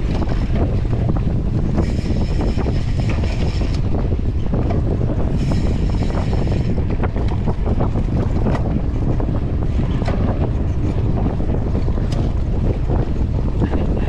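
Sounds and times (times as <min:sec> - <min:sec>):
bike knocks and rattles: 0:00.0 - 0:13.8
wind buffeting microphone: 0:00.0 - 0:14.0.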